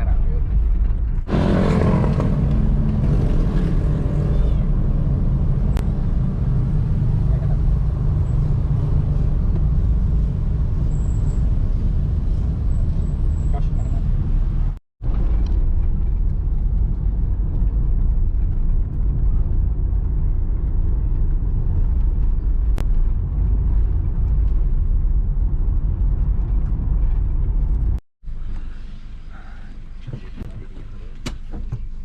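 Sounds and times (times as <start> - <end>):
road vehicle rumbling: 0.0 - 32.0.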